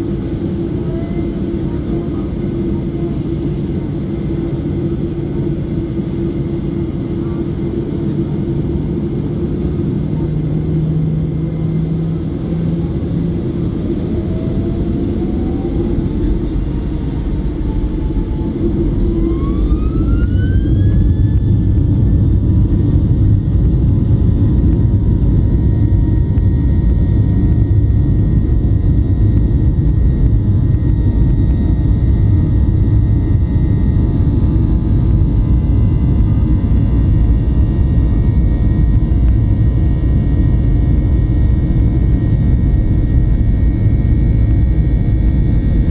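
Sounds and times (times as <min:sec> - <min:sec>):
deep rumble of takeoff roll: 0:00.0 - 0:45.9
jet engines whining: 0:00.0 - 0:45.9.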